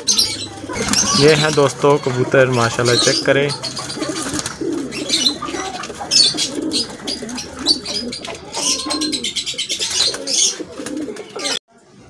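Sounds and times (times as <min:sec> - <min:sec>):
pigeons cooing: 0:00.0 - 0:11.6
small birds chirping: 0:00.0 - 0:11.6.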